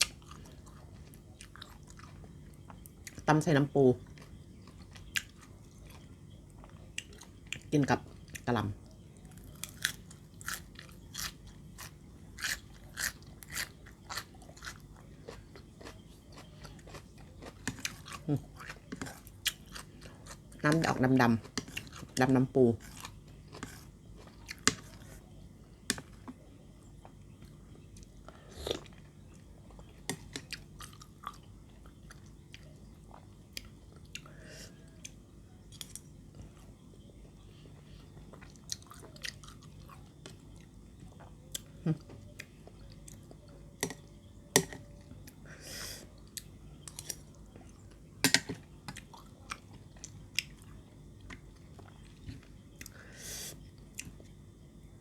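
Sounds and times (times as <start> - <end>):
person chewing crunchy food: 0.0 - 3.2, 4.0 - 36.8, 37.6 - 45.4, 46.0 - 53.0
steady low hum: 0.0 - 55.0.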